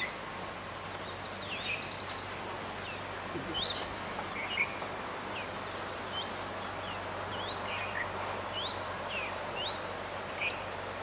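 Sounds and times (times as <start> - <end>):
high insect drone: 0.0 - 11.0
soft background hiss: 0.0 - 11.0.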